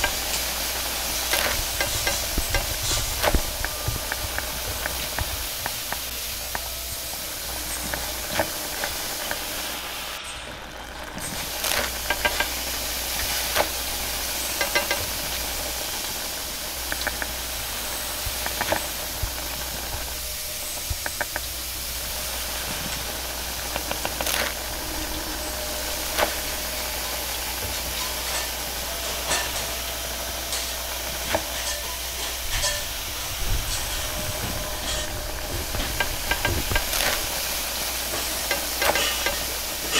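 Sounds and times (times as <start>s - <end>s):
frying hiss in a wok: 0.0s - 39.9s.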